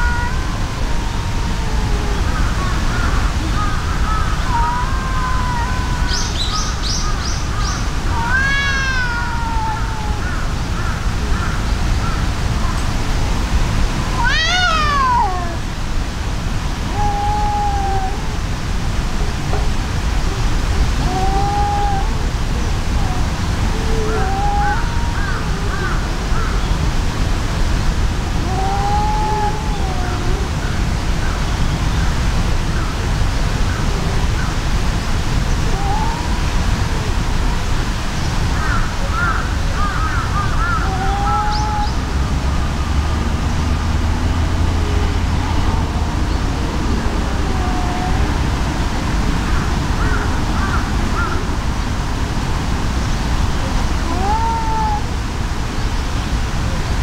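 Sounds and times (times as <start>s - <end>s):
cats yowling: 0.0s - 11.7s, 13.9s - 16.0s, 16.6s - 26.9s, 28.1s - 31.4s, 32.6s - 42.3s, 44.7s - 51.5s, 53.6s - 55.4s
low outdoor rumble: 0.0s - 57.0s.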